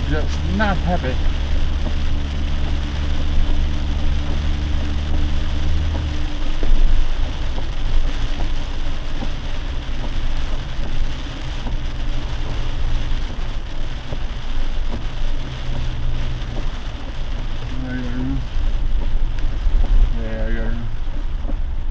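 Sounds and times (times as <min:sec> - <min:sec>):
engine and tyre hum: 0:00.0 - 0:21.9
rain beating on a vehicle: 0:00.0 - 0:21.9.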